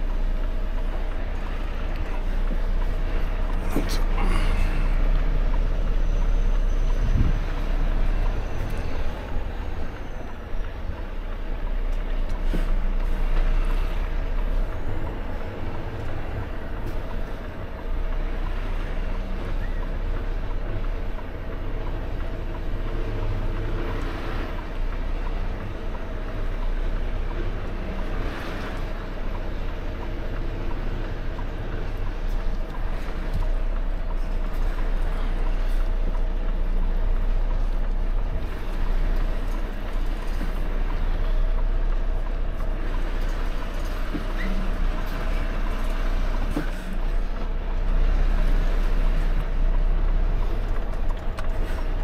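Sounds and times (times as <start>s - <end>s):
diesel engine low revs: 0.0s - 52.0s.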